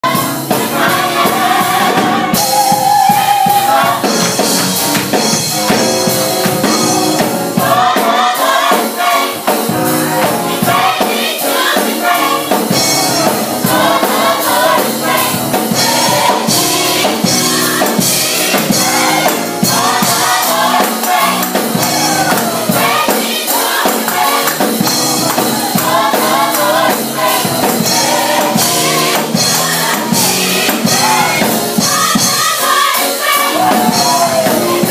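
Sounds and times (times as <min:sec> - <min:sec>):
band accompaniment: 0:00.0 - 0:34.9
gospel choir singing: 0:00.0 - 0:34.9
steady drum or tambourine beat: 0:00.0 - 0:34.9.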